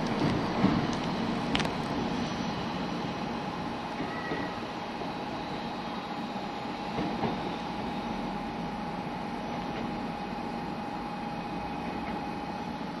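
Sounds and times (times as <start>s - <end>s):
train humming: 0.0s - 13.0s.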